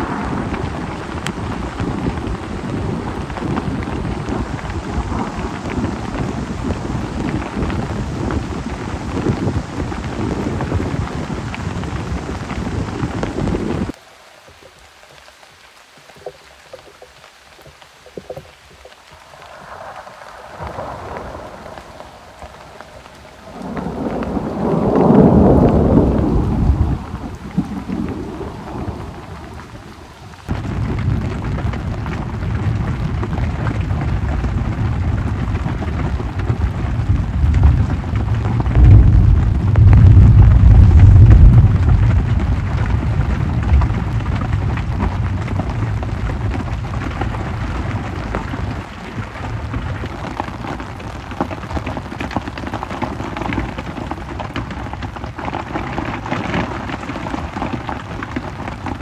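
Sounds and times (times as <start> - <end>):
thunder rumbling: 0.0 - 14.0, 18.1 - 59.0
rain: 0.0 - 59.0.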